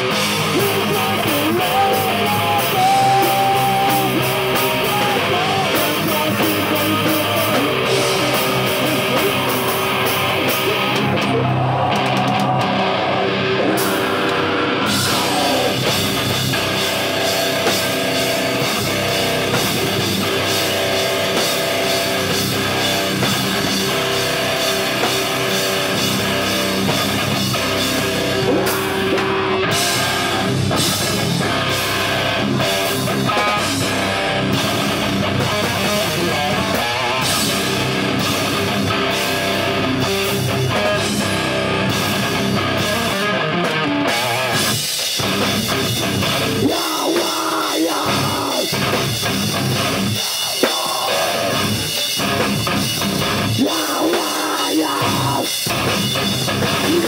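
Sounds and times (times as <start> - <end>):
distorted electric guitars: 0.0 - 57.0
drum kit pounding: 0.0 - 57.0.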